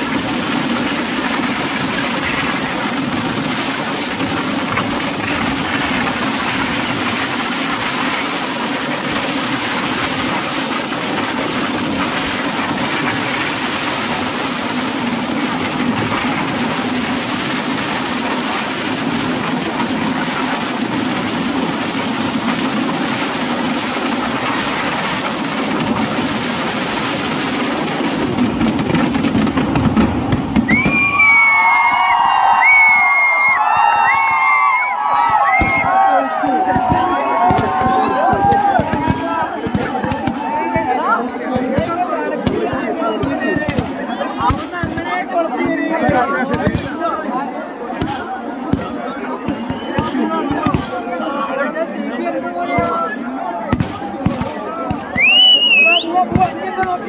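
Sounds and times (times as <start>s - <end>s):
firecrackers barrage: 0.0s - 57.0s.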